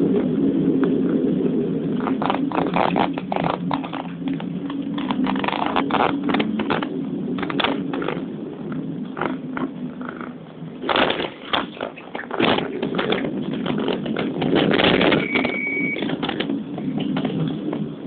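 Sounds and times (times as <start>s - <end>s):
crackles and knocks: 0.0s - 18.0s
vehicle engine and road drone: 0.0s - 18.0s.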